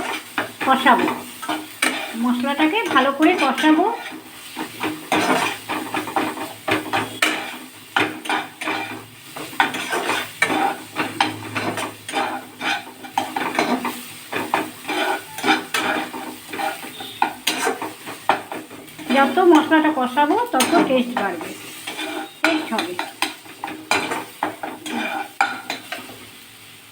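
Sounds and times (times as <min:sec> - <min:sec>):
spoon scraping a pan: 0:00.0 - 0:26.4
paste sizzling in oil: 0:00.0 - 0:26.9.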